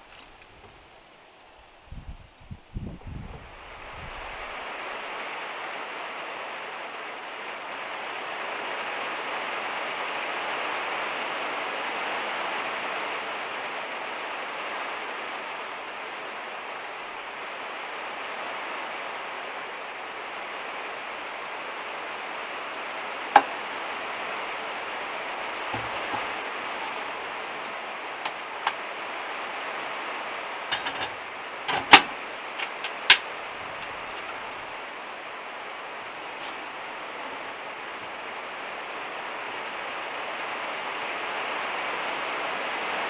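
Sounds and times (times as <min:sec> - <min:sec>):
heavy rain on metal roof: 0:00.0 - 0:43.0.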